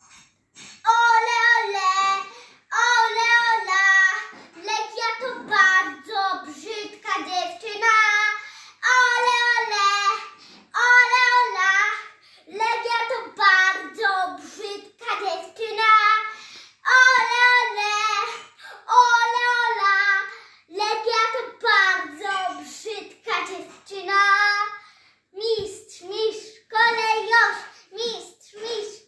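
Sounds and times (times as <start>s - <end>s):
girl singing a chant: 0.6s - 29.0s.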